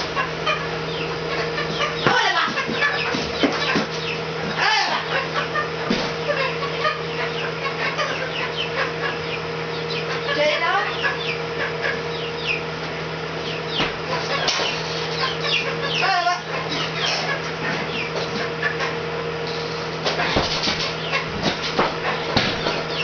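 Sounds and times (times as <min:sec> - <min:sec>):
chicks peeping: 0:00.0 - 0:23.0
steady low hum: 0:00.0 - 0:23.0.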